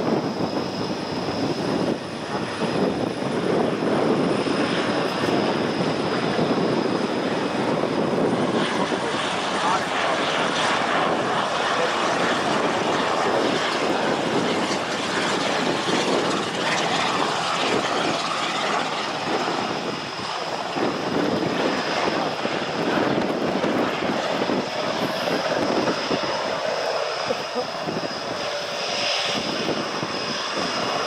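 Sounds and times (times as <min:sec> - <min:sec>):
turboprop engines running: 0:00.0 - 0:31.0.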